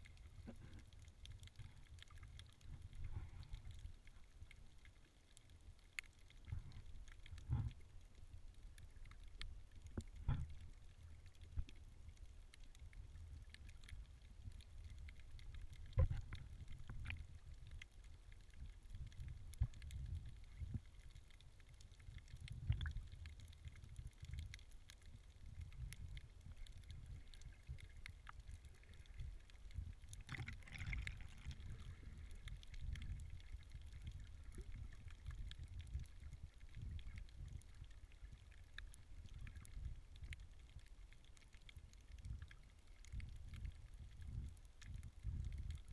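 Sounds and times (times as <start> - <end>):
muffled underwater rumble: 0.0 - 45.9.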